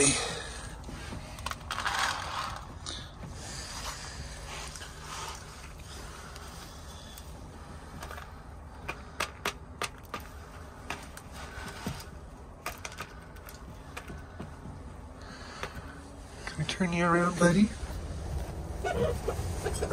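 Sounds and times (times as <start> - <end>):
rustling: 0.4 - 9.2, 10.0 - 19.9.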